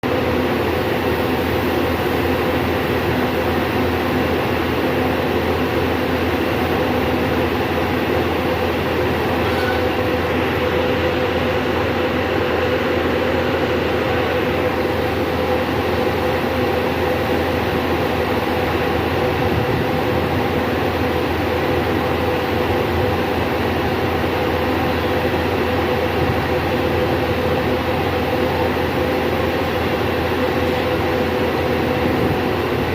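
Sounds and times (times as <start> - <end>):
vehicle wash machine hum: 0.0 - 32.9.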